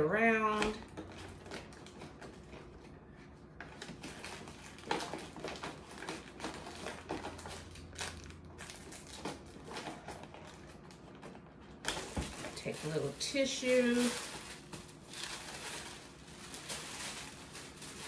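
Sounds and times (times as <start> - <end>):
paper bag and tissue rustling: 0.2 - 18.0.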